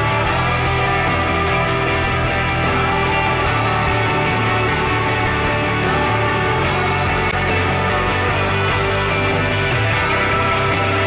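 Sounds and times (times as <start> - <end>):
dense instrumental music: 0.0 - 11.0.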